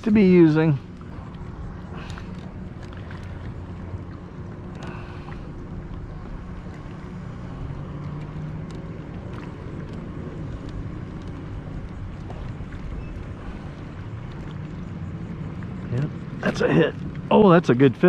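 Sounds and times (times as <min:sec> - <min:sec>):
electric trolling motor humming: 0:00.0 - 0:18.0.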